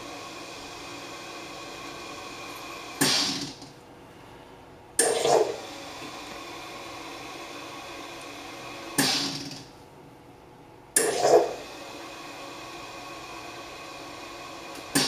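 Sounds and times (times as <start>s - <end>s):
coffee machine hum: 0.0s - 15.0s.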